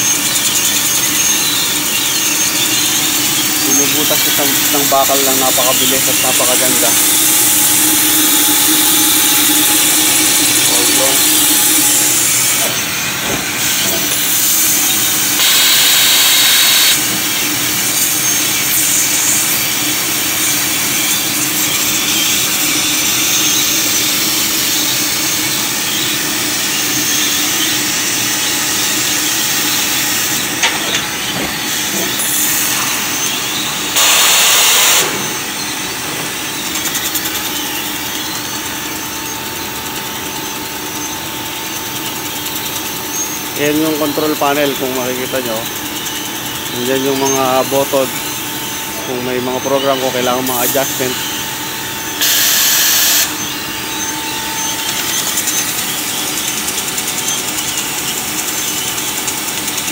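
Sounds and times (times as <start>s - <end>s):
laser cutter gas hiss: 0.0s - 56.4s
machine hum: 0.0s - 59.9s.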